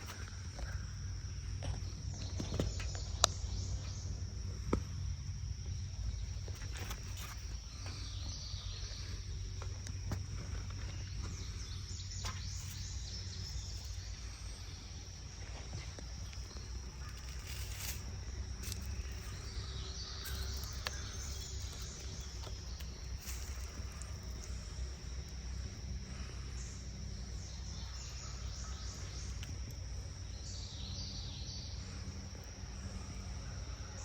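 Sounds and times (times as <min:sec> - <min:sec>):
faint bird chirps: 0:00.0 - 0:34.0
insect drone: 0:00.0 - 0:34.0.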